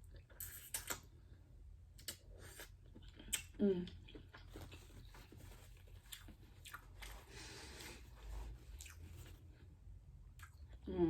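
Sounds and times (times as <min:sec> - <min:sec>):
person chewing: 0:00.0 - 0:01.3, 0:02.0 - 0:10.9.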